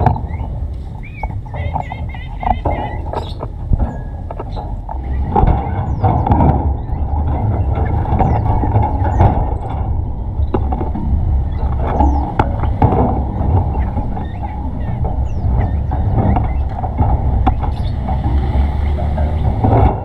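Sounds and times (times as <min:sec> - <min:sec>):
high bird chirps: 0:00.0 - 0:10.8, 0:11.4 - 0:19.4
low rumble: 0:00.0 - 0:20.0.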